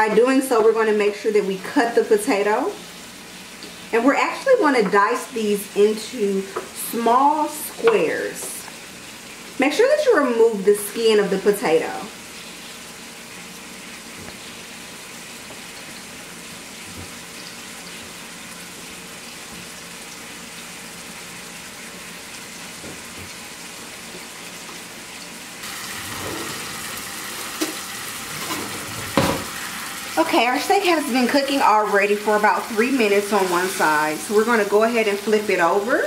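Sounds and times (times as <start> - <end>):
steak sizzling in a frying pan: 0.0 - 36.0.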